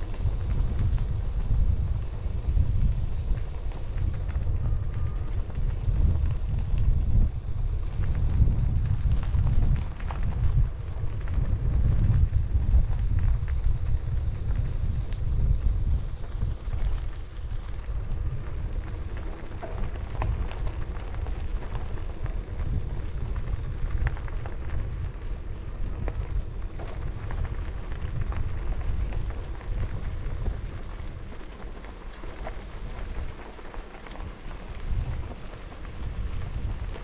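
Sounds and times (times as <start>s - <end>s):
tyres crackling on trail: 0.0s - 37.0s
wind buffeting microphone: 0.0s - 37.0s.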